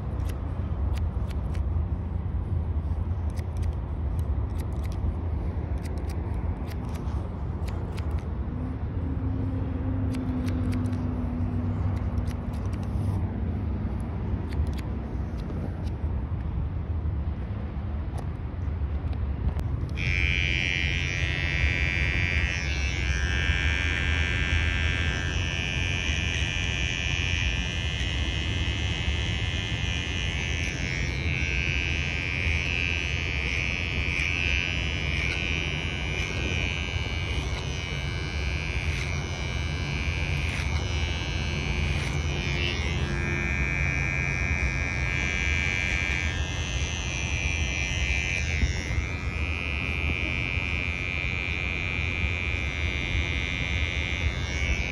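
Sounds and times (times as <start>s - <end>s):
electric hair clipper buzzing: 0.0s - 16.7s, 18.1s - 54.9s
wind and traffic rumble: 0.0s - 54.9s.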